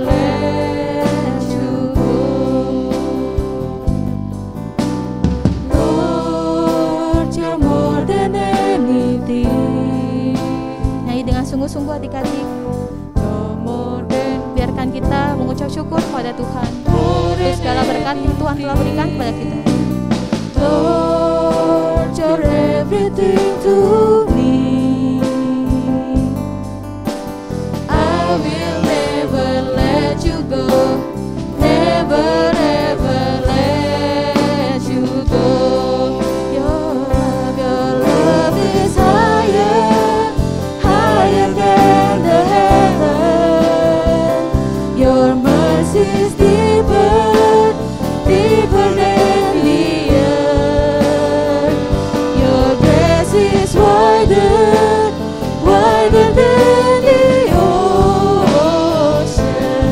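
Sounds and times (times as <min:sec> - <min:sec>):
voices singing in unison: 0:00.0 - 0:04.2, 0:05.5 - 0:11.6, 0:12.3 - 0:26.4, 0:27.3 - 0:59.9
worship band playing: 0:00.0 - 0:59.9.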